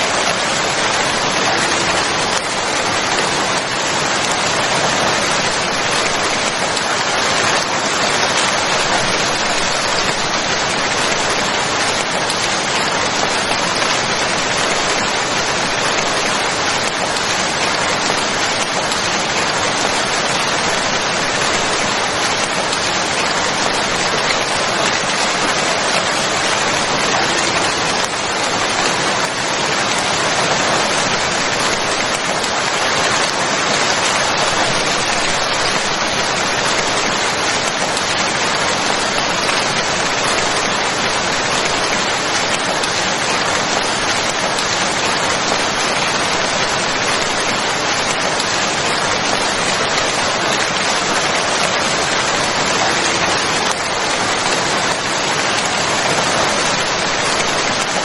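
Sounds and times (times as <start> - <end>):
steady dense rainfall: 0.0 - 58.0.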